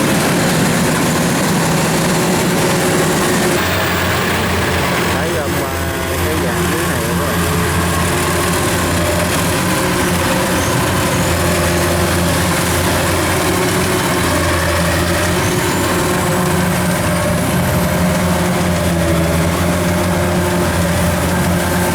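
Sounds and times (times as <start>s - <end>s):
combine harvester diesel engine: 0.0s - 21.9s.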